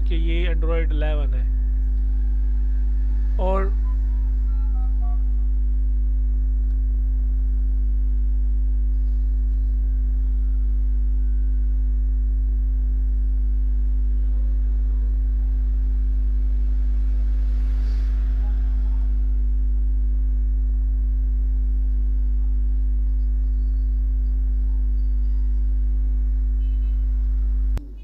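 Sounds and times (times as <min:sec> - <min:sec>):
faint high steady tone: 0:00.0 - 0:19.8, 0:20.6 - 0:28.0
low mains hum: 0:00.0 - 0:28.0.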